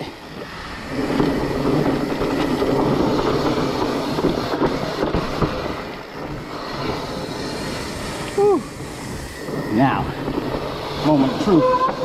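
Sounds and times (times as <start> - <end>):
bike rattling and clicking: 0.0 - 12.0
bike tyre rumble on dirt: 0.0 - 12.0.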